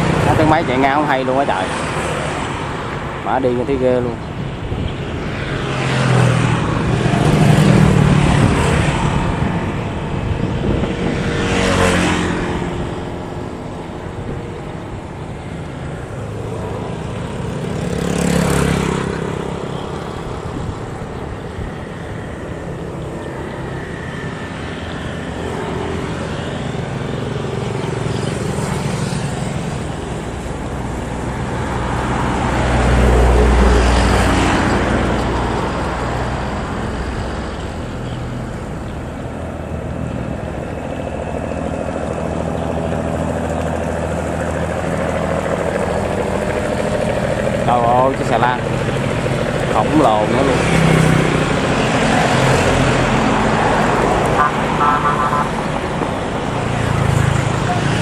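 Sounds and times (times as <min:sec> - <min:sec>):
boat outboard engine drone: 0:00.0 - 0:58.0.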